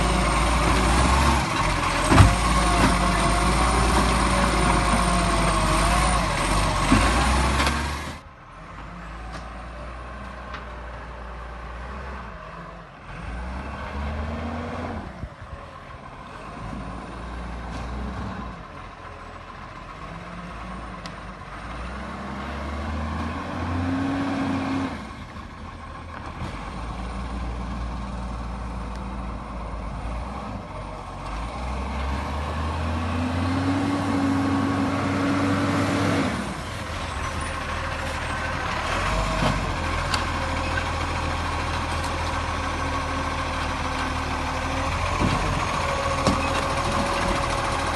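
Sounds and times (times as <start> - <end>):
garbage truck engine revving: 0.0 - 9.0, 11.6 - 15.5, 16.1 - 47.9.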